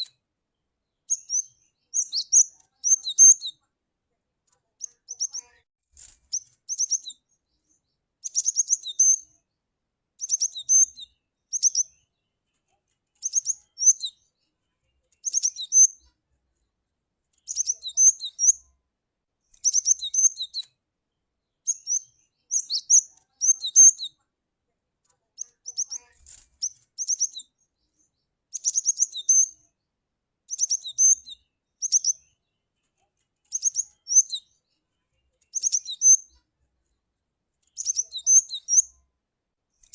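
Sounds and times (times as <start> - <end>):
bird chirping: 0.0 - 3.7, 4.5 - 9.6, 10.2 - 16.7, 17.3 - 18.8, 19.4 - 24.3, 25.3 - 29.9, 30.5 - 39.1.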